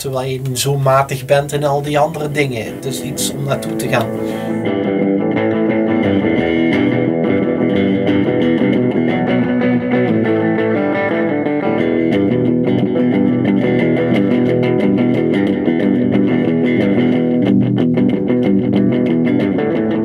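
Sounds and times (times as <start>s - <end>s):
electric guitar picked: 0.0s - 20.0s.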